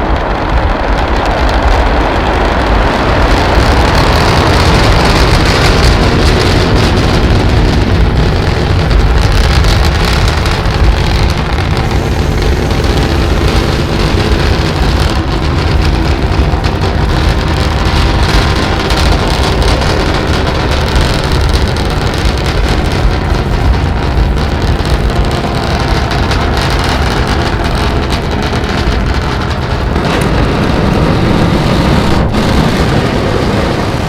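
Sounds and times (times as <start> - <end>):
heavy low rumble: 0.0 - 34.0
loud rushing noise: 0.0 - 34.0.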